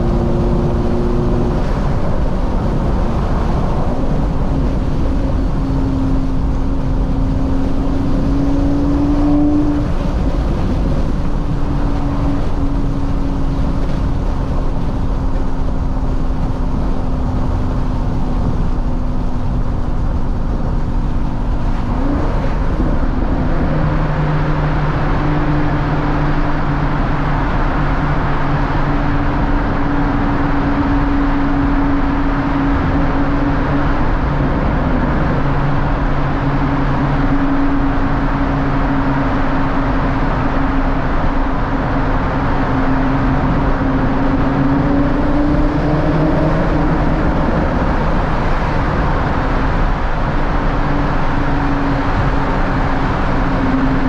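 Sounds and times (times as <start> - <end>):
car engine cruising: 0.0 - 54.0
tyre and road noise: 0.0 - 54.0.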